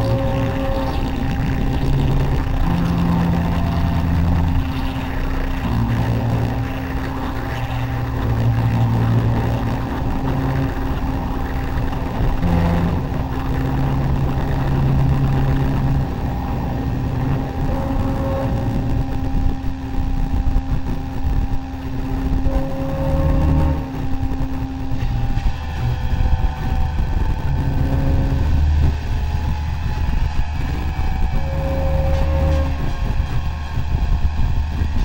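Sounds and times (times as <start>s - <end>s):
dense wall of noise: 0.0s - 35.0s
low held tones: 0.0s - 35.0s.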